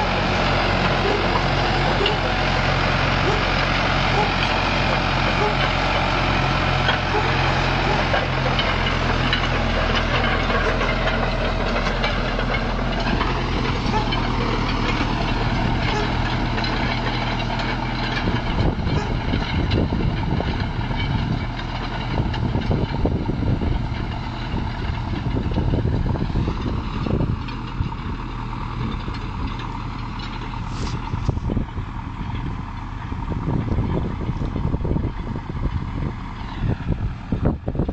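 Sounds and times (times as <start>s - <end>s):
low rumbling noise: 0.0s - 37.9s
tractor diesel engine under load: 0.0s - 37.9s.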